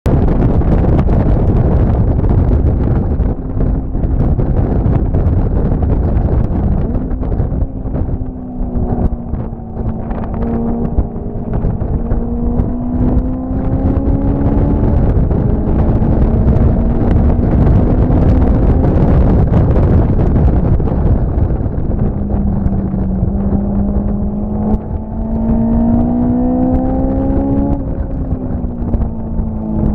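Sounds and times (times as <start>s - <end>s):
wind on microphone: 0.0s - 29.9s
engine drone: 0.1s - 29.9s.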